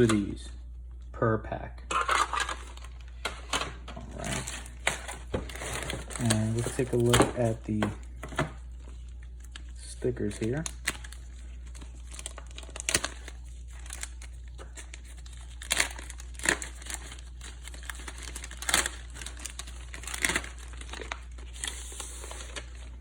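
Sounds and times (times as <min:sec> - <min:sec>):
steady low hum: 0:00.0 - 0:23.0
paper and plastic crinkling: 0:01.9 - 0:23.0.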